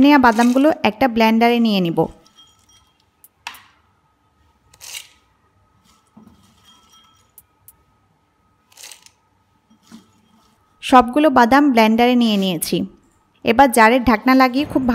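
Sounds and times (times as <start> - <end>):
faint steady hum: 0.7 - 14.9.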